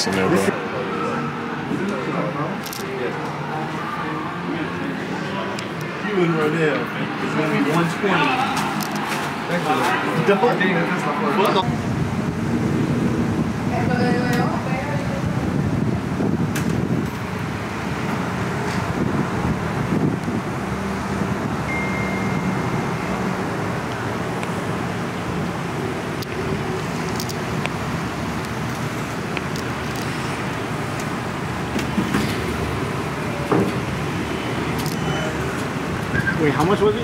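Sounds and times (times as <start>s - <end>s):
car road noise: 0.0s - 37.0s.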